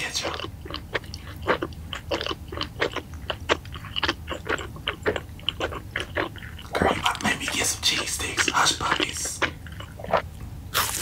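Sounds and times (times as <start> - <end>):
chewing crispy food: 0.0 - 11.0.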